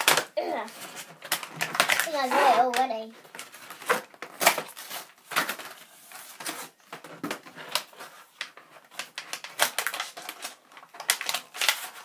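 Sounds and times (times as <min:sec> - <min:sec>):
packaging knocking: 0:00.0 - 0:05.8, 0:06.4 - 0:12.0
plastic packaging crackling: 0:00.0 - 0:12.0.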